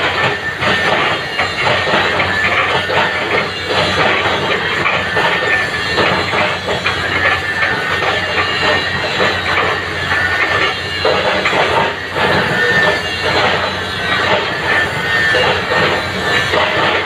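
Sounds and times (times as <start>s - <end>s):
excavator engine under load: 0.0s - 17.0s
high squeal: 0.0s - 17.0s.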